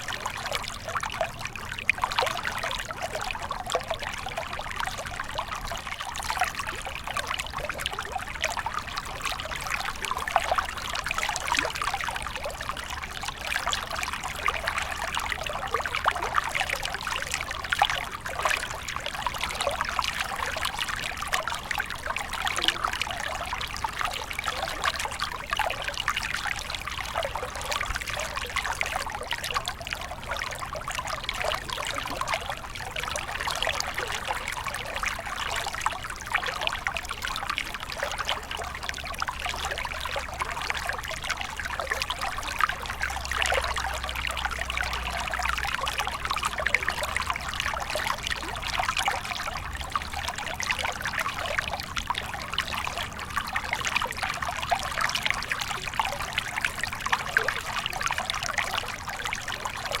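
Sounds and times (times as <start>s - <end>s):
stream trickling over stones: 0.0s - 60.0s.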